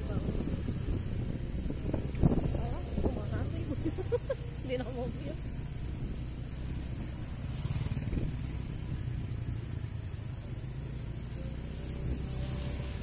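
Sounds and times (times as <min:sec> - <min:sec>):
road and wind noise: 0:00.0 - 0:13.0
small motorcycle engine running: 0:00.0 - 0:13.0.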